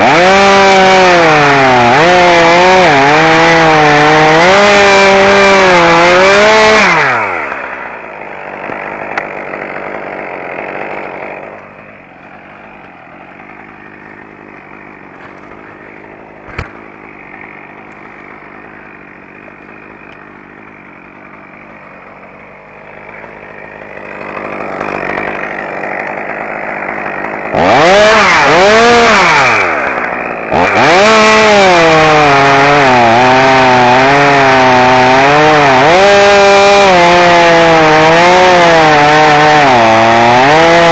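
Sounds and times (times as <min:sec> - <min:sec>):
chainsaw idling and revving: 0:00.0 - 0:40.9.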